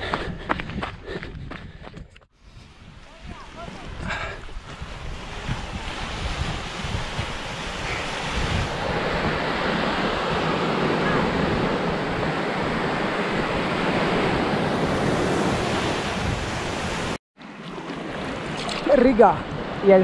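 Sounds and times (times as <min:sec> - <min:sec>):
wind buffeting microphone: 0:00.0 - 0:17.2
sea surf washing: 0:02.8 - 0:20.0.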